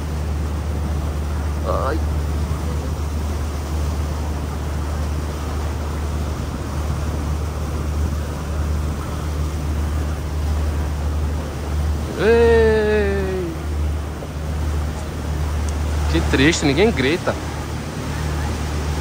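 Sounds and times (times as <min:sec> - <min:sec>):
boat engine drone: 0:00.0 - 0:19.0
rush of wind and water: 0:00.0 - 0:19.0.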